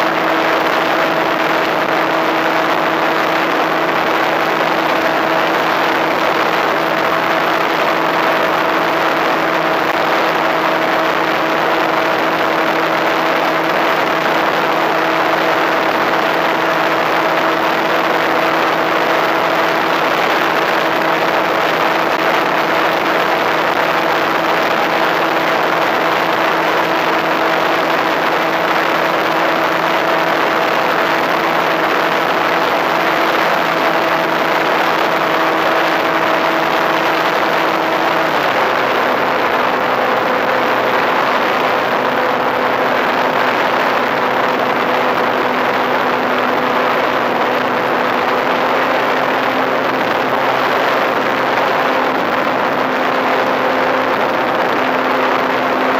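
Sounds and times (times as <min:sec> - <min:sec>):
electric motor and propeller hum: 0:00.0 - 0:55.9.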